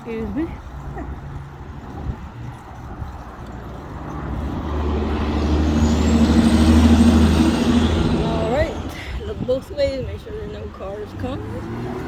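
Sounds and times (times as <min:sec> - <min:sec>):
traffic noise: 0:00.0 - 0:12.0
vehicle engine approaching: 0:00.0 - 0:12.0.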